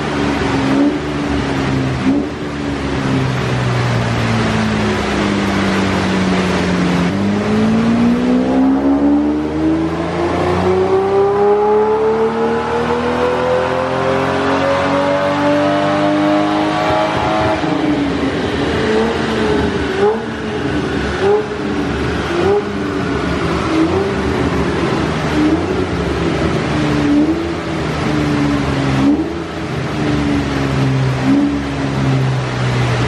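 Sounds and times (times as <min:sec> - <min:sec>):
car engine revving under load: 0:00.0 - 0:33.0.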